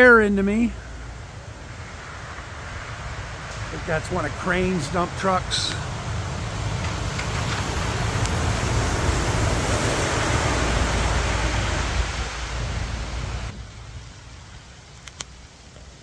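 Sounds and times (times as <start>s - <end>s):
dump truck passing: 0.0s - 14.1s.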